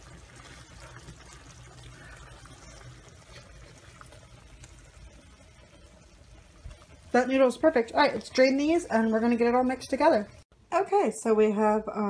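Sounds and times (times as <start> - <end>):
sauce simmering: 0.0 - 10.5
water boiling in a pot: 0.0 - 10.5.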